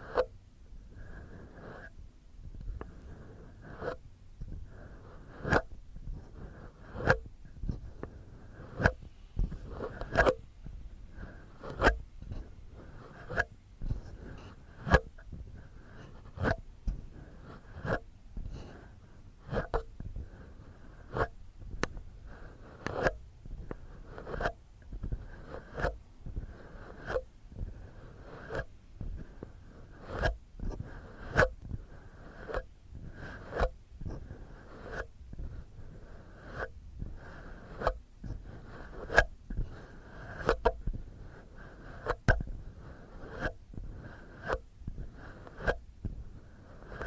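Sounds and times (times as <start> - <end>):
fingernails scratching microphone: 2.7 - 47.0.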